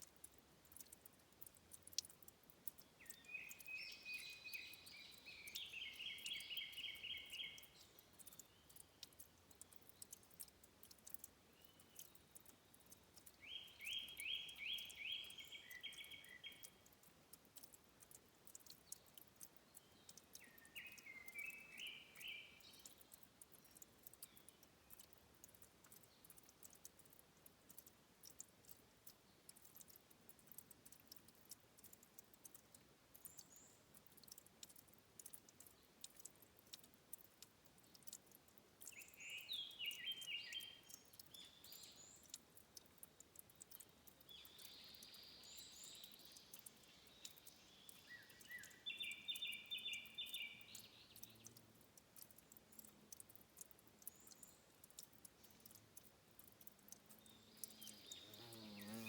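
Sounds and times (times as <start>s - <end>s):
small birds chirping: 0.0s - 59.0s
water ticking and dripping: 0.0s - 59.0s.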